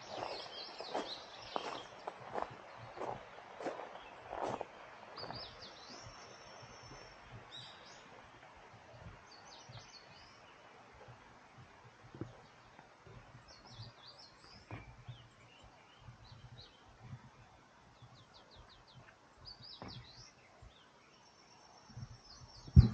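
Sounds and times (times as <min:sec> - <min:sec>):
faint low rumbles: 0:00.0 - 0:22.9
small birds chirping: 0:00.0 - 0:22.9.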